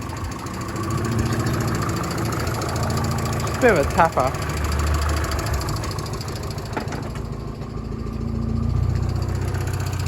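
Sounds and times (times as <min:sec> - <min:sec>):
car engine idling: 0:00.0 - 0:10.0
engine tapping: 0:00.0 - 0:10.0.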